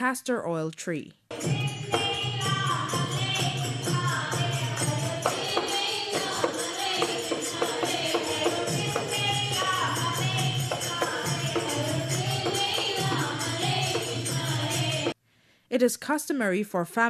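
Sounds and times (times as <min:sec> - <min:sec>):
jingling hand cymbals: 0:01.3 - 0:15.2.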